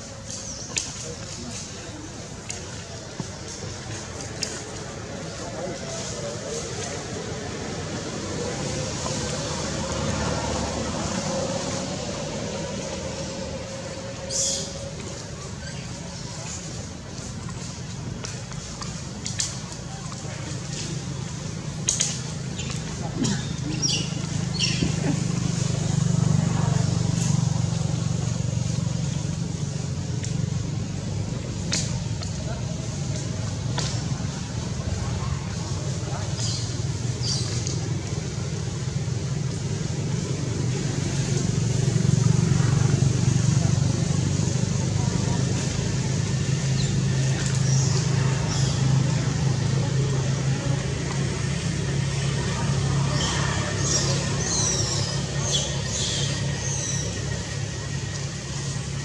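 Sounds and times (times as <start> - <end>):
low engine hum: 0.0 - 59.0.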